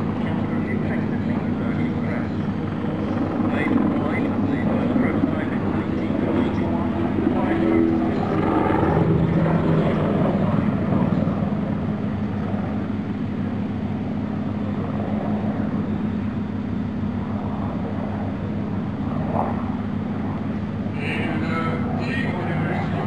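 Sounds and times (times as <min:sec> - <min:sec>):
helicopter rotor and turbine drone: 0:00.0 - 0:23.0.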